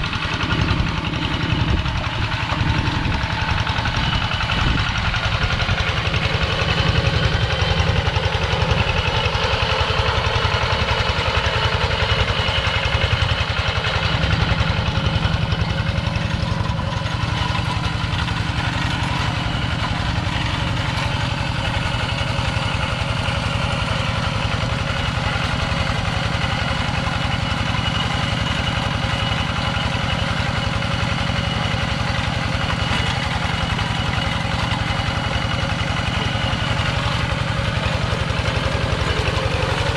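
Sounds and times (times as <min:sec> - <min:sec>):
small diesel engine running: 0:00.0 - 0:39.9.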